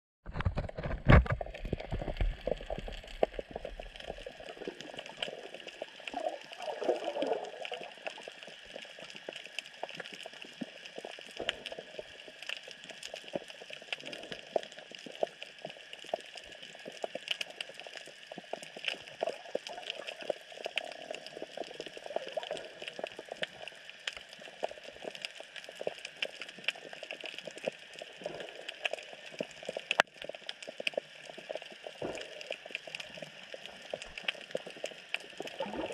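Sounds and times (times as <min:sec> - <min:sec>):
crackle of small clicks and pops: 0:00.2 - 0:35.9.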